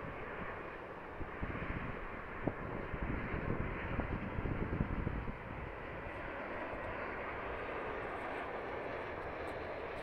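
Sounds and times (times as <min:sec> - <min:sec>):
high jet engine whine: 0:00.0 - 0:10.0.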